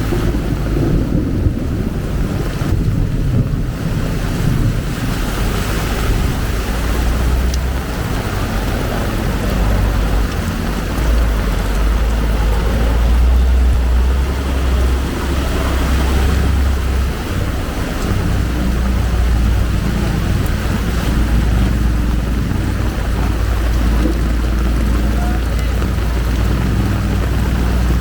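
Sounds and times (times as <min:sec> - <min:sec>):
heavy rain hissing: 0:00.0 - 0:28.0
vehicle engine rumbling: 0:00.0 - 0:28.0.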